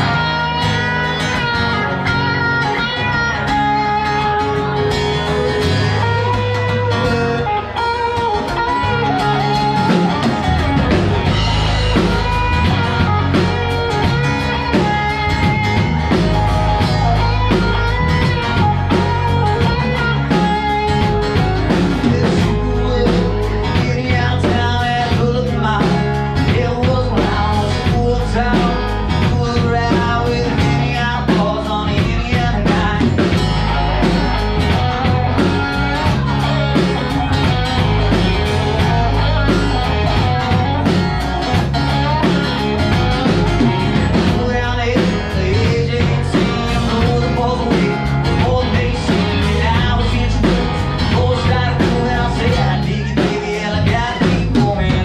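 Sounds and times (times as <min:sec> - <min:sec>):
live blues-rock band playing: 0:00.0 - 0:55.0.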